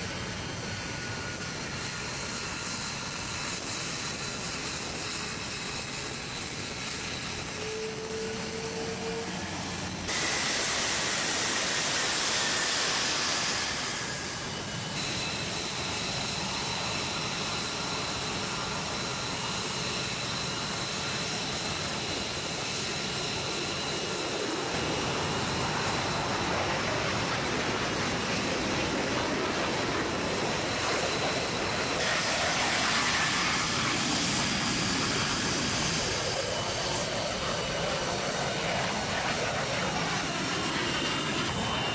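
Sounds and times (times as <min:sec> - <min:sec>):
high-pitched turbine whine: 0:00.0 - 0:41.9
jet engines rushing hiss: 0:00.0 - 0:41.9.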